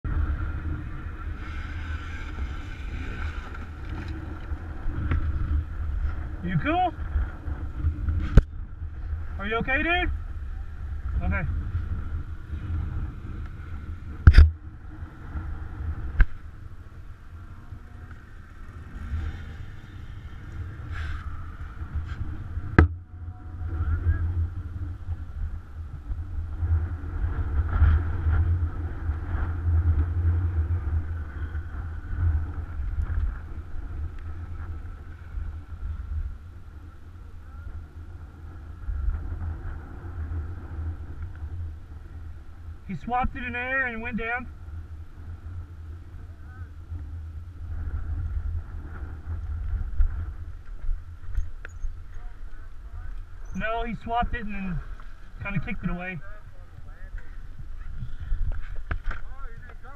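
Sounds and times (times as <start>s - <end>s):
wind rumble on microphone: 0.0s - 59.9s
dirt bike engines idling: 0.1s - 26.1s, 30.6s - 59.9s.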